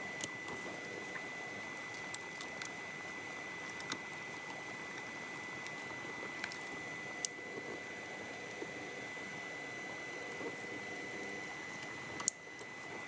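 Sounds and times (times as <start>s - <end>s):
constant high-pitched tone: 0.0s - 13.0s.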